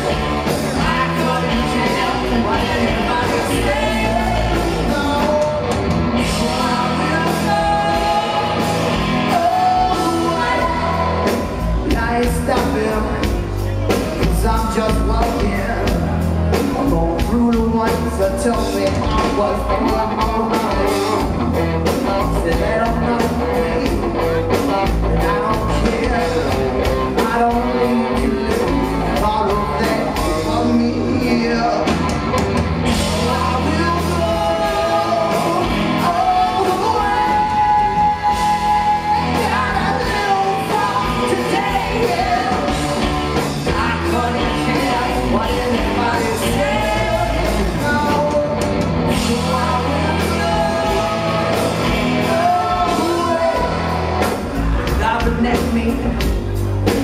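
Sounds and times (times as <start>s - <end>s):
bass guitar: 0.0s - 57.0s
drums: 0.0s - 57.0s
electric guitar: 0.0s - 57.0s
lead vocal singing: 0.0s - 57.0s.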